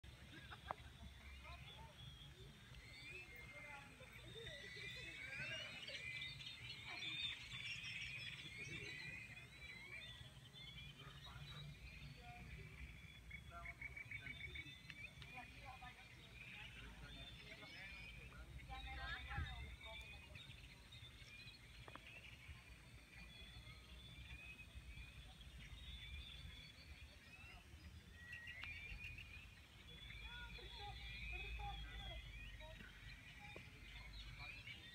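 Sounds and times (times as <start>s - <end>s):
birds chirping and twittering: 0.0s - 34.9s.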